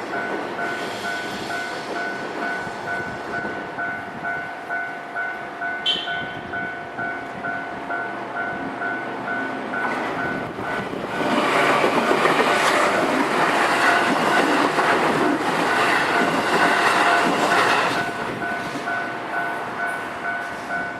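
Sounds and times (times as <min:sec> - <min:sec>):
crossing warning bell ringing: 0:00.0 - 0:20.9
train wheels on rails: 0:00.0 - 0:20.9.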